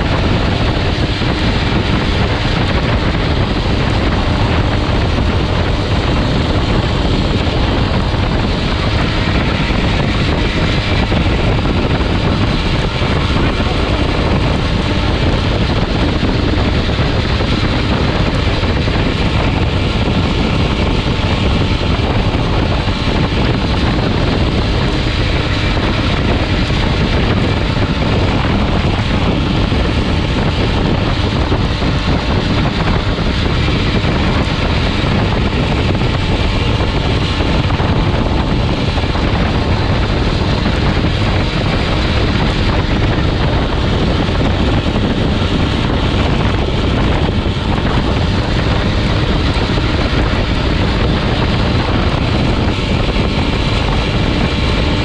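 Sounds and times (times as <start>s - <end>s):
motorbike engine droning: 0.0s - 55.0s
wind rushing over microphone: 0.0s - 55.0s.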